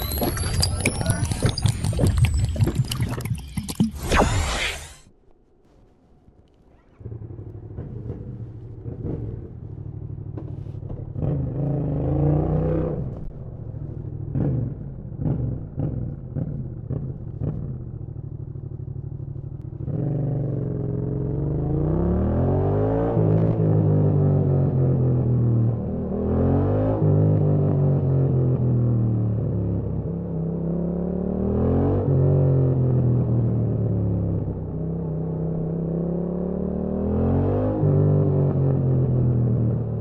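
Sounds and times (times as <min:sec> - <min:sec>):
motorcycle engine revving: 0:06.7 - 0:40.0.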